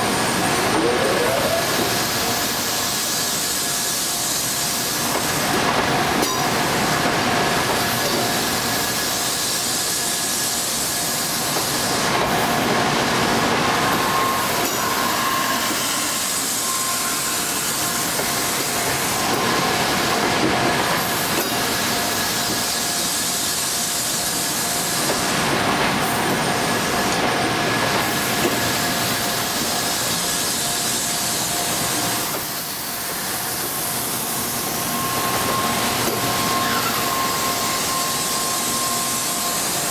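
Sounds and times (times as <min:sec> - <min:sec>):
train wheels hissing on rails: 0:00.0 - 0:39.9.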